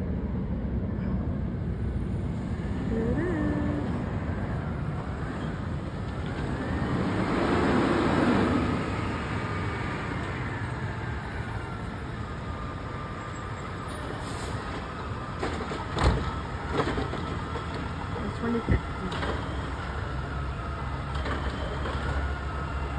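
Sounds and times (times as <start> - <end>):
garbage truck driving past: 1.2 - 22.9.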